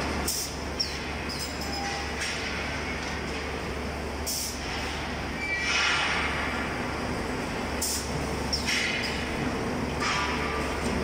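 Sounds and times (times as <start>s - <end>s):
machinery low hum: 0.0s - 11.0s.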